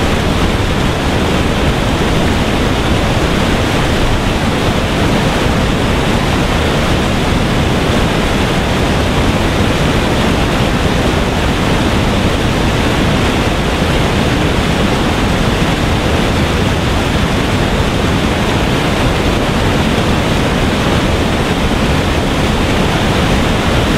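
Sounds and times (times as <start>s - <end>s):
water rushing over weir: 0.0s - 23.9s.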